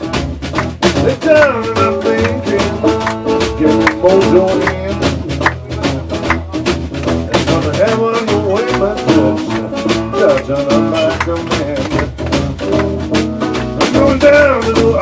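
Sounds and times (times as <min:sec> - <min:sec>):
acoustic blues band playing: 0:00.0 - 0:15.0
snare drum beat: 0:00.0 - 0:15.0.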